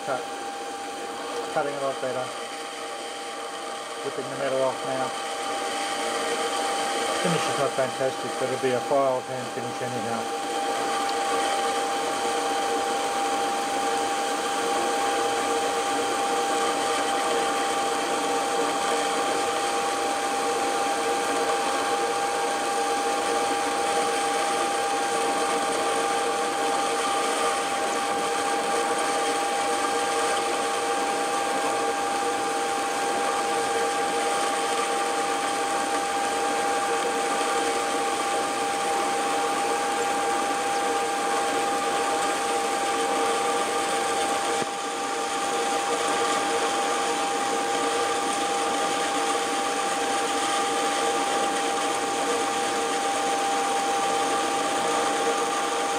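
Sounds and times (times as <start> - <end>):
machine whine: 0.0 - 55.9
metal lathe cutting: 0.0 - 55.9.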